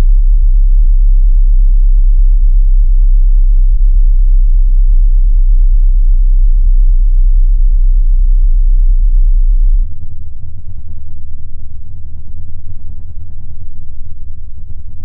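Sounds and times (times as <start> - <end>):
deep sine-wave bass tone: 0.0 - 15.0
rough rumbling low noise: 0.0 - 15.0.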